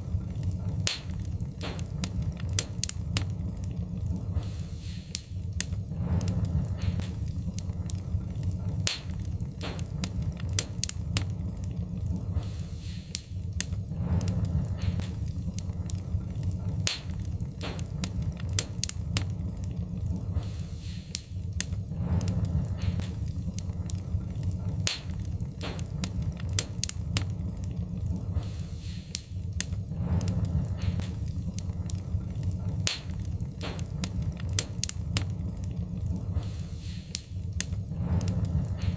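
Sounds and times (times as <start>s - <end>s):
fire hissing: 0.0s - 38.9s
low fire rumble: 0.0s - 38.9s
wood fire crackling and popping: 0.0s - 38.9s.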